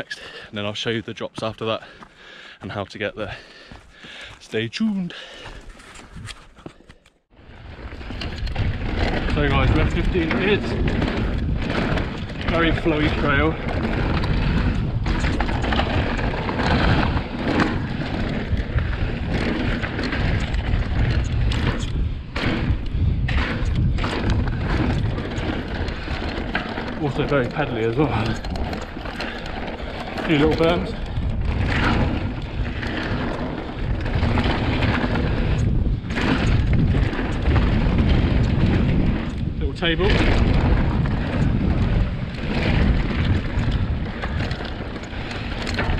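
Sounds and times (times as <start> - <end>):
tyres crunching over dirt: 0.0 - 45.9
bike knocking and rattling: 5.2 - 45.9
wind rumbling on microphone: 7.3 - 45.9.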